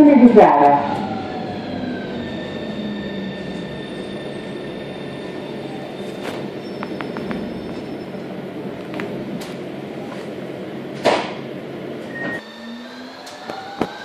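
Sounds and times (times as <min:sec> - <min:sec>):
train rolling through tunnel: 0:00.0 - 0:14.0.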